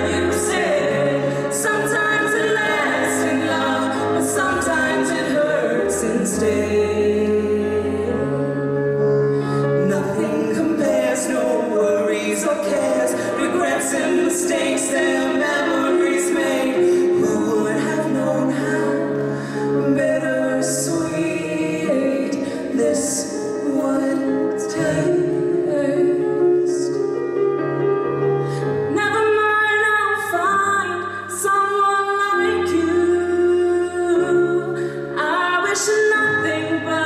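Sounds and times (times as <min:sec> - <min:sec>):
choir singing a pop ballad: 0:00.0 - 0:27.2, 0:28.8 - 0:37.0.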